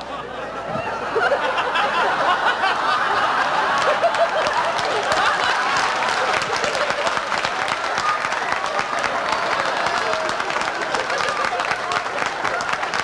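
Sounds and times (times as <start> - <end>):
audience laughing: 0.0 - 13.0
audience applauding: 1.6 - 13.0.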